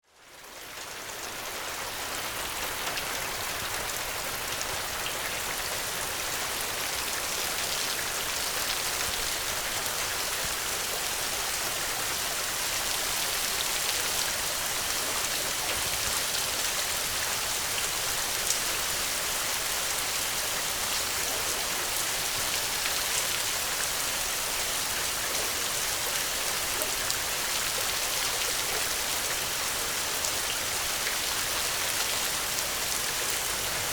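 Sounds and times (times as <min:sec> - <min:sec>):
rain on a thatched roof: 0:00.0 - 0:33.9.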